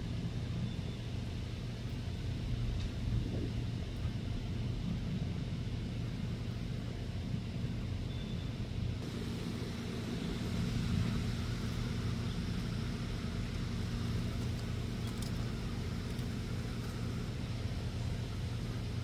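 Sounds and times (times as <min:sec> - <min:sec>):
low mechanical motor hum: 0:00.0 - 0:19.0.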